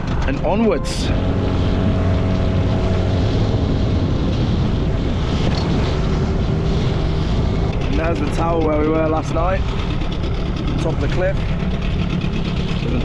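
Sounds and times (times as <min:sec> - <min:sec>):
boat engine running: 0:00.0 - 0:13.0
wind on microphone: 0:00.0 - 0:13.0.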